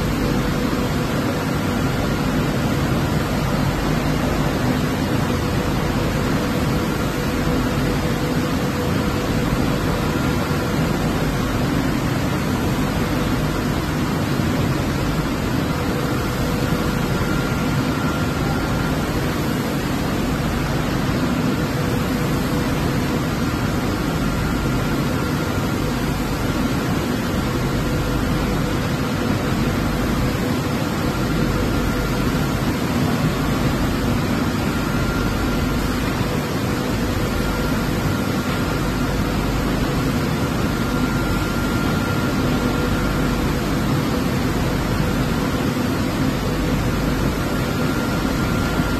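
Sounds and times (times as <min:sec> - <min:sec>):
faint steady hum: 0:00.0 - 0:48.9
washing machine blowers rushing: 0:00.0 - 0:48.9.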